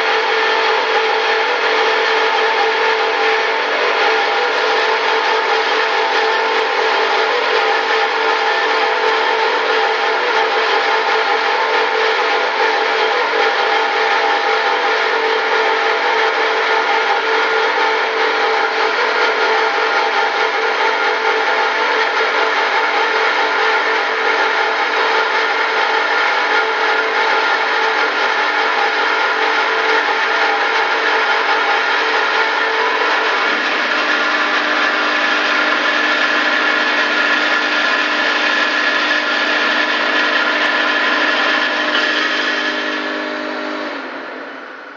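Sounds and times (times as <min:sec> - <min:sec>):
band saw cutting steel: 0:00.0 - 0:44.9.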